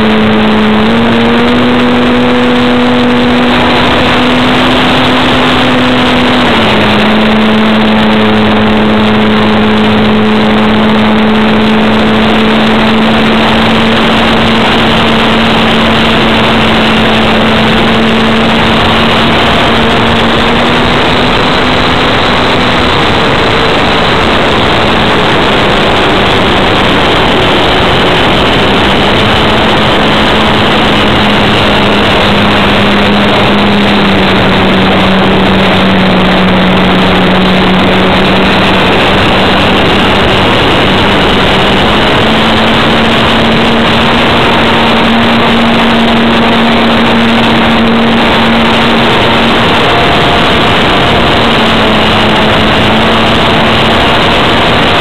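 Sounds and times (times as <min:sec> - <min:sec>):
model plane motor and propeller: 0:00.0 - 0:55.0
wind rush: 0:00.0 - 0:55.0.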